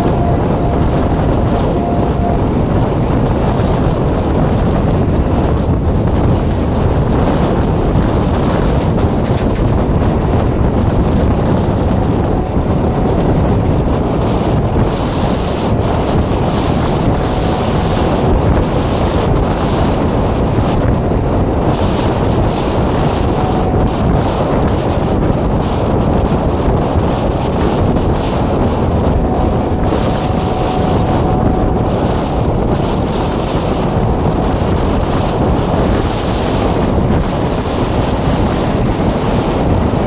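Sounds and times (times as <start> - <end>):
electric train running: 0.0 - 39.6
second train passing alongside: 0.0 - 40.0
wind buffeting microphone: 0.0 - 40.0.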